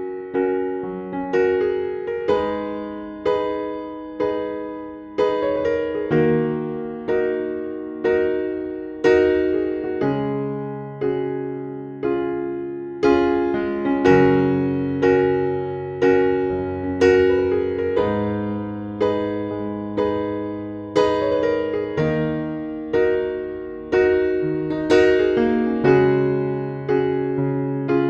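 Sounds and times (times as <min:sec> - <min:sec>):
gentle piano chords: 0:00.0 - 0:28.0.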